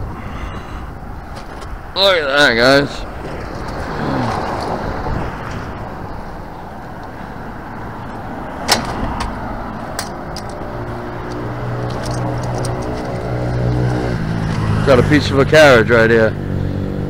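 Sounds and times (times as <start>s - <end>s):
engine hum: 0.0s - 17.0s
road traffic: 0.0s - 17.0s
vehicle passing: 0.0s - 17.0s.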